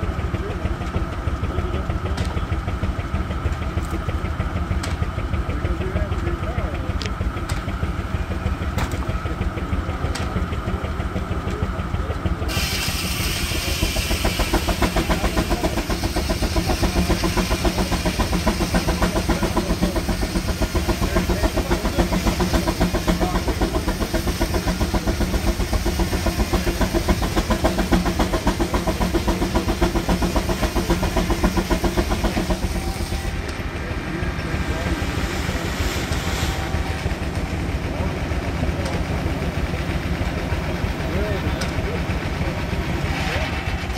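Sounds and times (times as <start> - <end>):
steam engine exhaust beat: 0.0 - 43.9.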